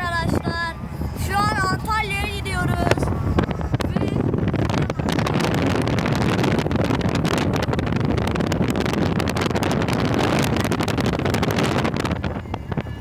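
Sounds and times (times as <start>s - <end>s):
car road noise: 0.0s - 13.0s
wind buffeting microphone: 0.0s - 13.0s.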